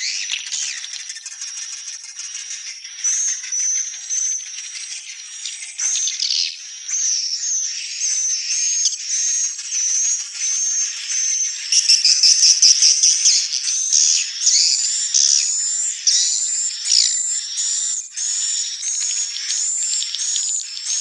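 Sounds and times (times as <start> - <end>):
swiftlets twittering chirps: 0.0 - 21.0.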